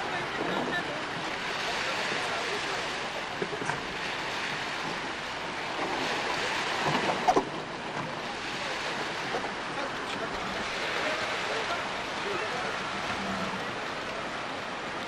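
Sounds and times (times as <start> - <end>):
surf washing onto sandy beach: 0.0 - 15.0.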